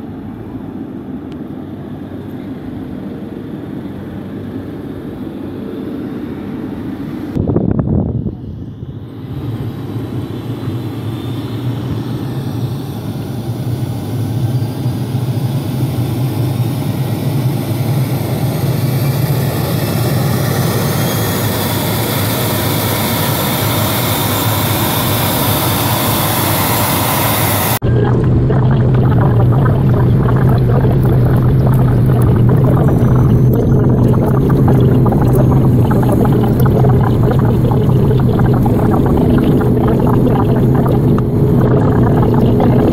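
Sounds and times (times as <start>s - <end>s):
turboprop engine running: 0.0s - 42.9s
propeller drone inside cabin: 8.3s - 42.9s
faint engine whine rising: 8.4s - 42.9s.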